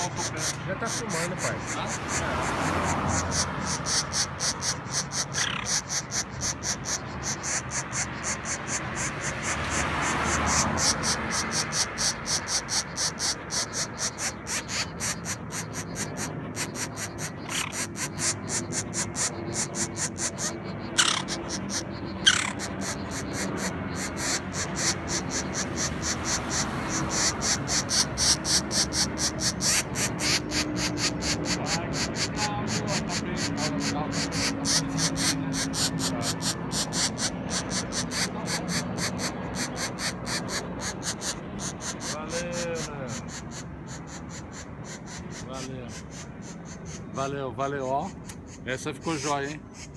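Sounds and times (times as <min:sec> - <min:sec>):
nestlings high-pitched begging calls: 0:00.0 - 0:49.9.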